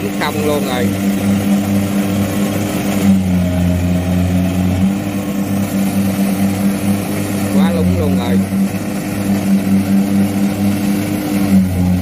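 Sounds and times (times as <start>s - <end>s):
combine harvester engine droning: 0.0s - 12.0s.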